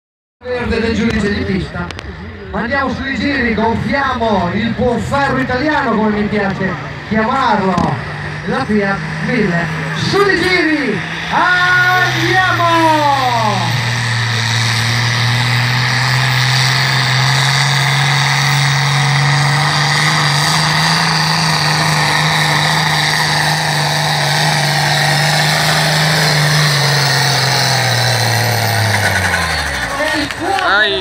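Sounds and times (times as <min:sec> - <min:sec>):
tractor diesel engine under load: 0:00.4 - 0:31.0.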